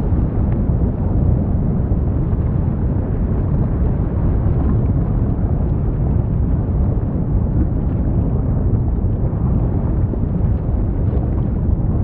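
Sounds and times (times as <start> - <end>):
lava deep rumble: 0.0 - 12.0.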